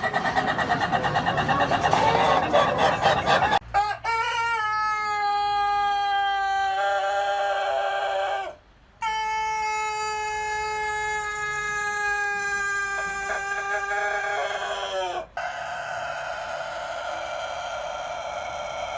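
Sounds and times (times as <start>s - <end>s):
rooster crowing: 0.0s - 9.2s, 12.0s - 18.9s.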